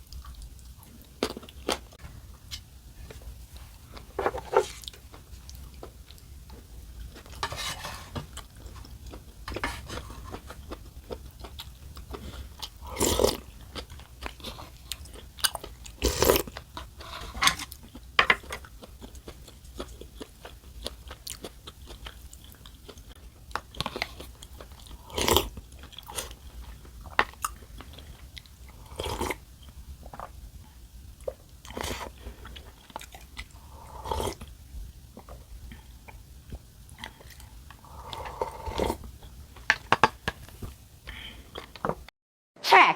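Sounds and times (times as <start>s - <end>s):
person chewing and crunching food: 0.0s - 42.1s.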